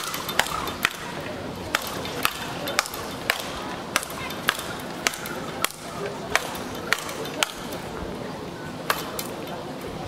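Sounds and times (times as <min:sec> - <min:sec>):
rackets hitting ball: 0:00.0 - 0:07.9, 0:08.9 - 0:09.4.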